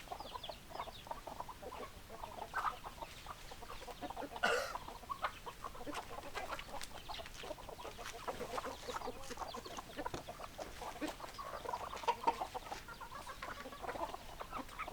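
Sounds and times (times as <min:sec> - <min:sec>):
hens clucking: 0:00.0 - 0:14.9.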